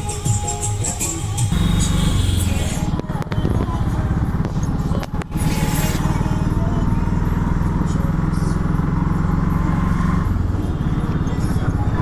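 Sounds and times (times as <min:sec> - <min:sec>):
street traffic: 0:00.0 - 0:12.0
small engine running: 0:01.5 - 0:12.0.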